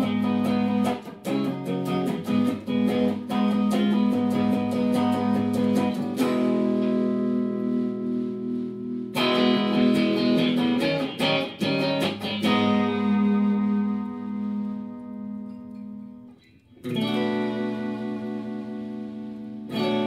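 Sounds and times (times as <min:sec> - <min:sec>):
electric guitar strumming: 0:00.0 - 0:20.0.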